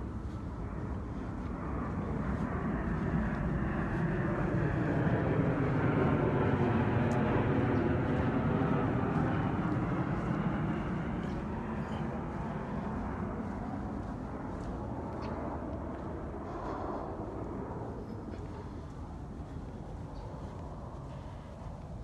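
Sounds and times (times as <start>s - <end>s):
airplane flying overhead: 0.0s - 22.0s.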